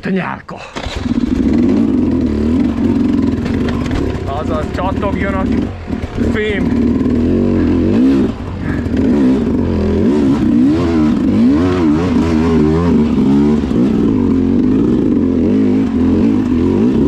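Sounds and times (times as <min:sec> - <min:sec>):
motorcycle engine revving: 0:00.7 - 0:17.0.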